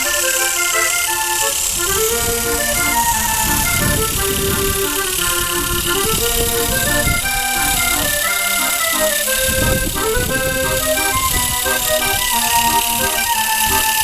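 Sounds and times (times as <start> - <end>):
accordion-like melody: 0.0 - 14.0.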